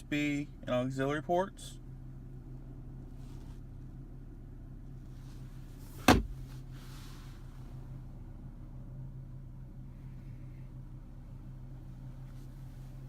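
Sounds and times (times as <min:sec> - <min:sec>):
low hum inside car: 0:00.0 - 0:13.0.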